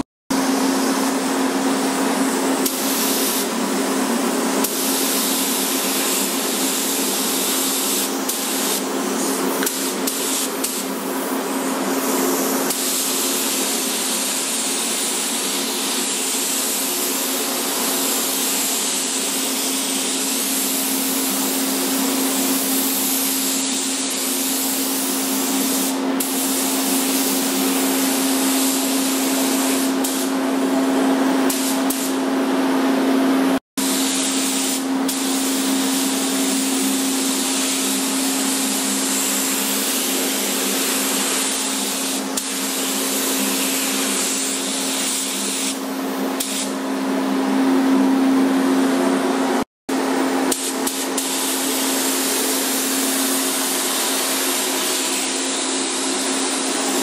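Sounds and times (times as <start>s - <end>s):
ventilation fan hum: 0.0s - 57.0s
paint spray gun hissing: 2.6s - 3.6s, 4.6s - 30.4s, 31.5s - 32.2s, 33.8s - 46.7s, 50.5s - 57.0s.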